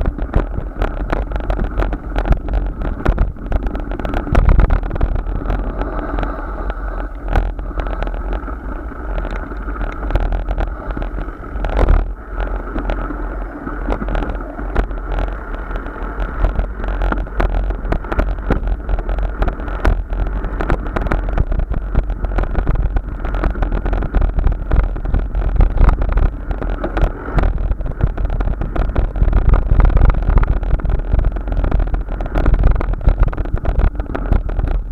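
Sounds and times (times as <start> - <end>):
rushing noise of moving ride: 0.0 - 34.9
wind rumble on microphone: 0.0 - 34.9.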